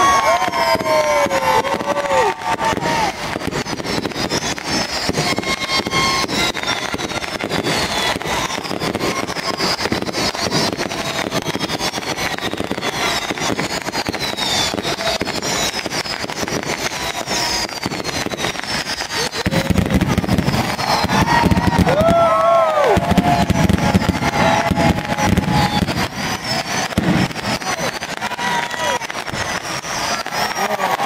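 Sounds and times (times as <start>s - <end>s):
fireworks crackling and popping: 0.0s - 31.0s
fireworks whistles: 0.0s - 31.0s.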